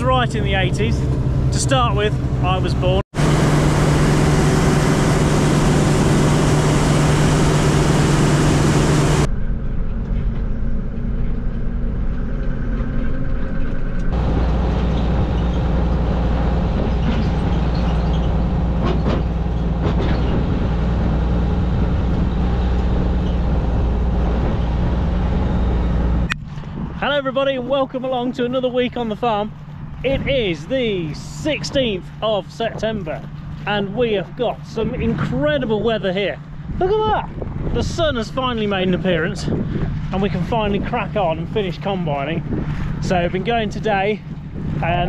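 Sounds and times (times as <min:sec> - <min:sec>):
combine harvester droning: 0:00.0 - 0:45.0.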